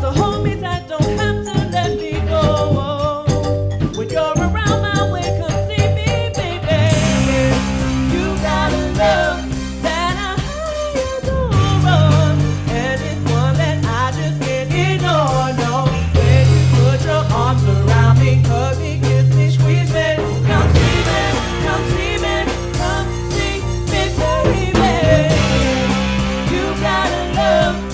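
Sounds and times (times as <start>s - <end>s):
bass line: 0.0s - 27.9s
person singing with vibrato: 0.0s - 27.9s
steady drum beat: 0.0s - 27.9s.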